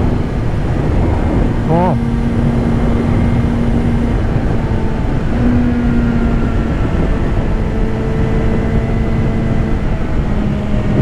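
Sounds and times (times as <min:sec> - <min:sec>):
motorcycle engine humming: 0:00.0 - 0:11.0
wind rush on microphone: 0:00.0 - 0:11.0.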